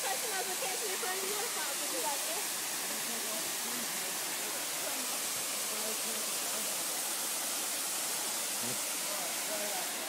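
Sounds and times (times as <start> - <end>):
small waterfall rushing: 0.0 - 10.0.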